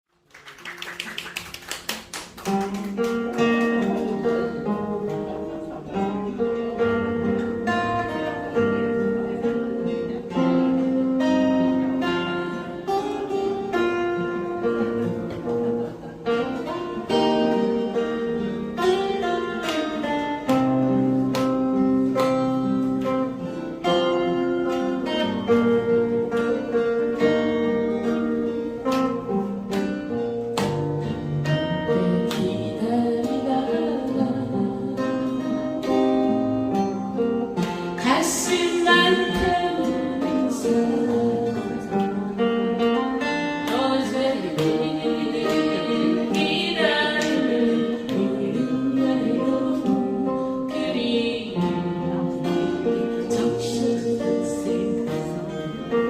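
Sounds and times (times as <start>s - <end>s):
acoustic guitar strummed and plucked: 1.0s - 56.0s.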